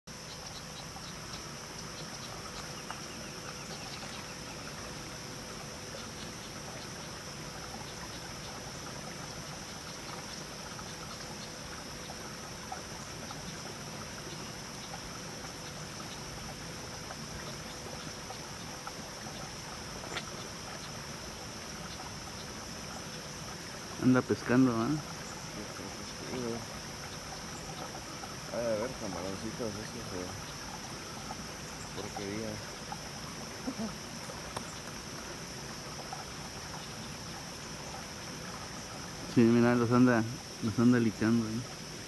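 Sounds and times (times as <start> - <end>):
high insect drone: 0.1 - 42.0
water trickling: 0.1 - 42.0.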